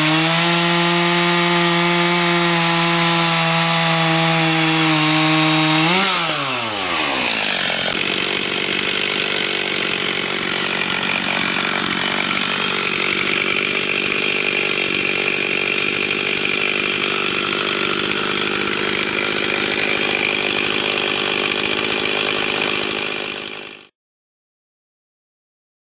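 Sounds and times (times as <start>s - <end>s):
chainsaw running at high revs: 0.0s - 23.9s.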